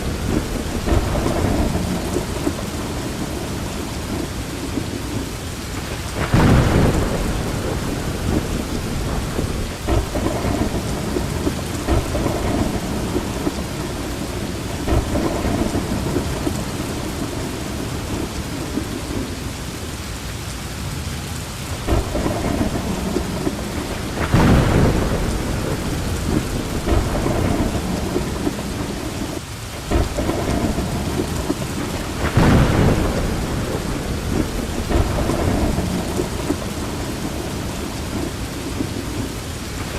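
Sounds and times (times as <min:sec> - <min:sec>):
rolling thunder: 0:00.0 - 0:19.8, 0:21.8 - 0:39.9
steady rain falling: 0:00.0 - 0:39.9.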